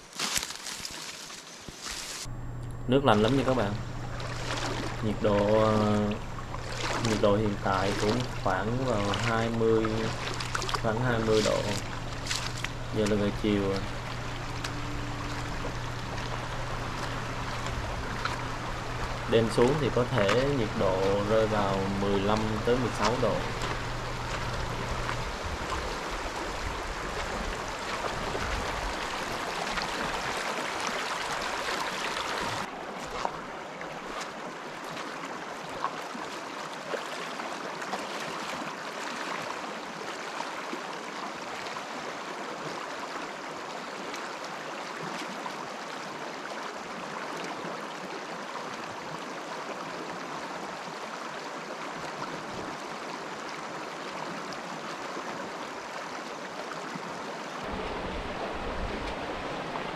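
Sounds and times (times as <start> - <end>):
mountain stream rushing: 2.9 - 59.9.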